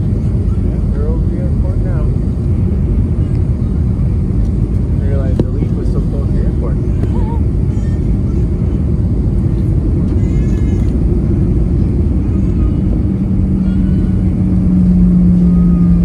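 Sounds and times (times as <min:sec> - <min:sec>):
jet engines and airflow rumble: 0:00.0 - 0:16.0
low hum: 0:00.0 - 0:16.0.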